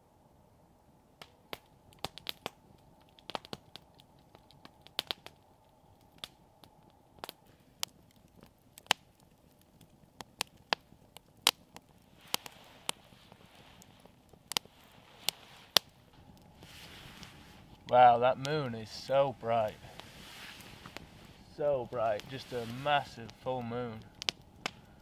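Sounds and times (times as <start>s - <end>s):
campfire crackling and popping: 0.6s - 25.0s.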